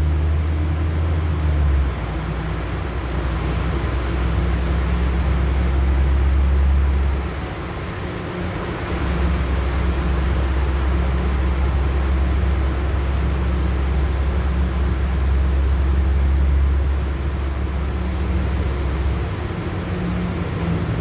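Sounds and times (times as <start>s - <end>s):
bus engine hum: 0.0s - 21.0s
road and tyre noise: 0.0s - 21.0s.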